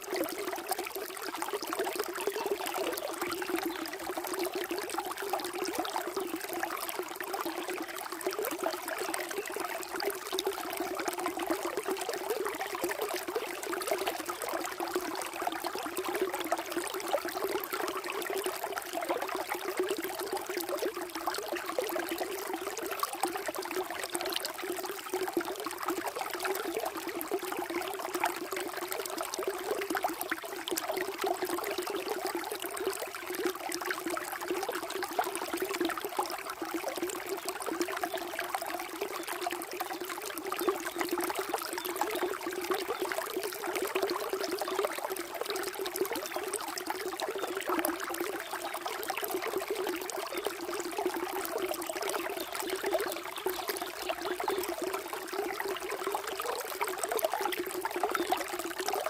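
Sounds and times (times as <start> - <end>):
water flowing and trickling: 0.0 - 59.0.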